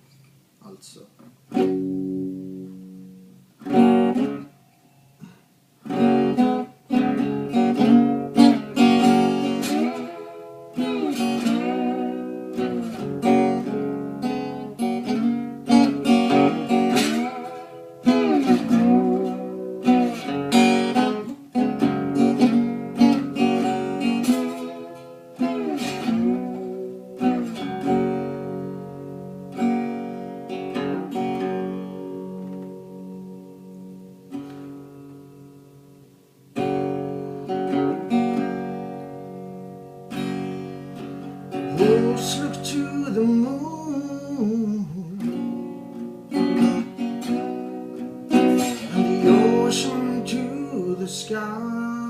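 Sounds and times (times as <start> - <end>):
acoustic guitar strumming chords: 0.0 - 52.0.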